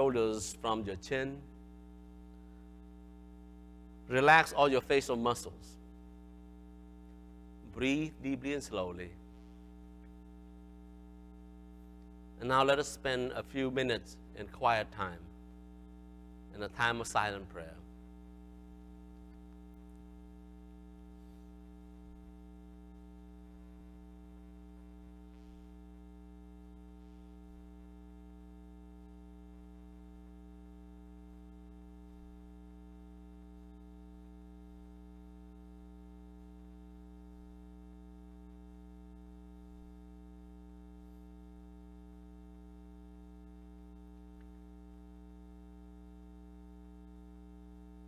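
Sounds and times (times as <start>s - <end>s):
faint electrical mains hum: 0.0s - 48.0s.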